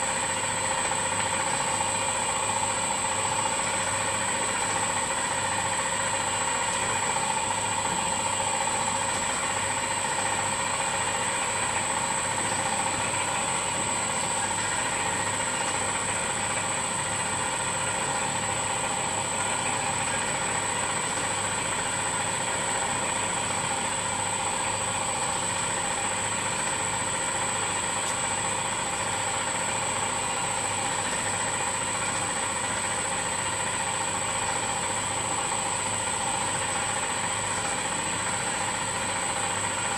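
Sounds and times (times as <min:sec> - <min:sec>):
machine hum with high whine: 0:00.0 - 0:39.9.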